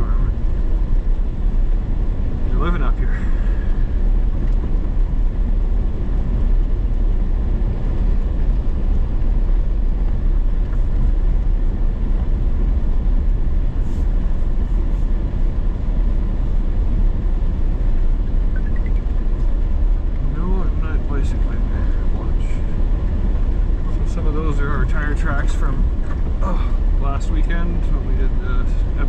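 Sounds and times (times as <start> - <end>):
vehicle engine rumbling: 0.0 - 29.0.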